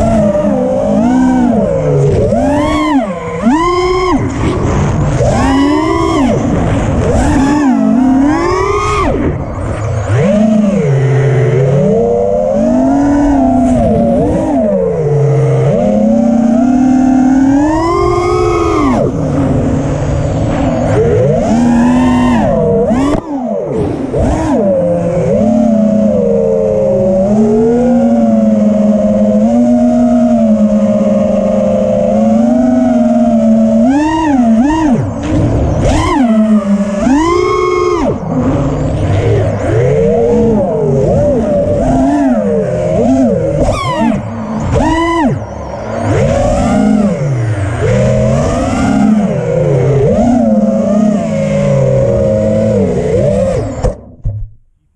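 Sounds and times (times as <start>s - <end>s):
quadcopter motors buzzing: 0.0s - 54.1s.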